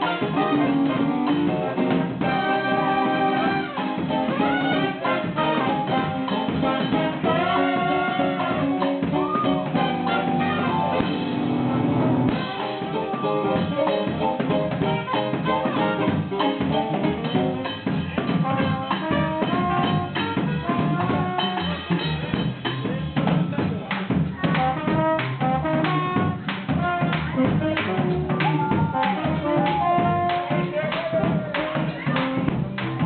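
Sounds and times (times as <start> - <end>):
drum kit groove: 0.0 - 33.0
jazzy live band: 0.0 - 33.0.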